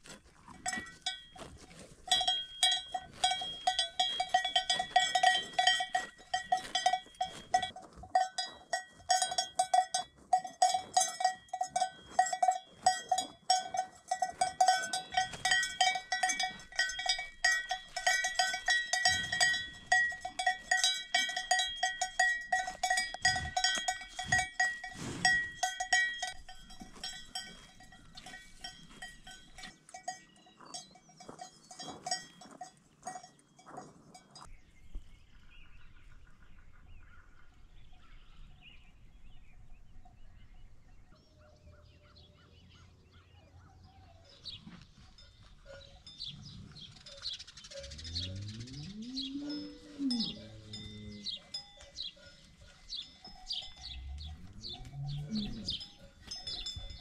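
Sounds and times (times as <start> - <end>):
cowbells clanking: 0.0 - 34.7, 44.2 - 57.0.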